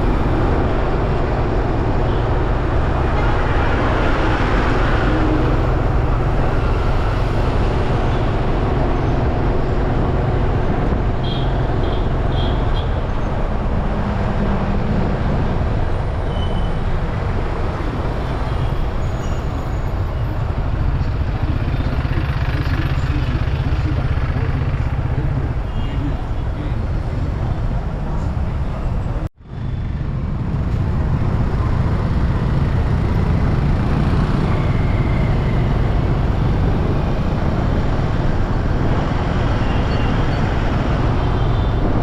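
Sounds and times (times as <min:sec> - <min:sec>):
road and traffic noise: 0:00.0 - 0:42.0.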